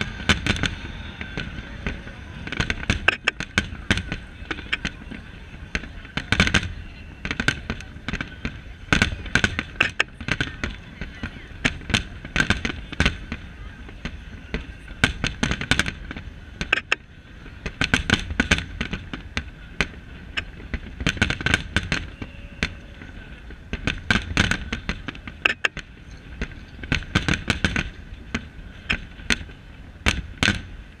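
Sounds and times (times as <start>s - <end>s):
fireworks bursting: 0.0s - 31.0s
low rumble: 0.0s - 31.0s.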